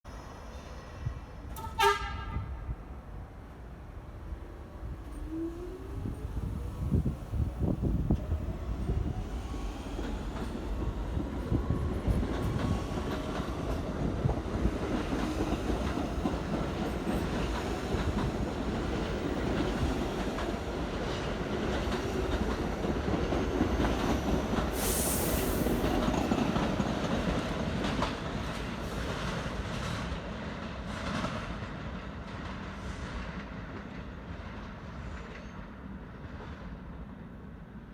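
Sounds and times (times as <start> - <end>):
rolling rail noise: 0.1 - 37.9.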